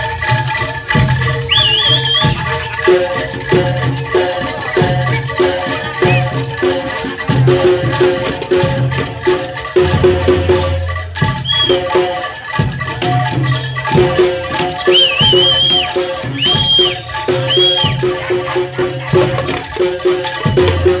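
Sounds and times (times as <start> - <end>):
drum strokes: 0.0 - 21.0
gamelan music over speakers: 0.0 - 21.0
metallic mallet notes: 0.0 - 21.0.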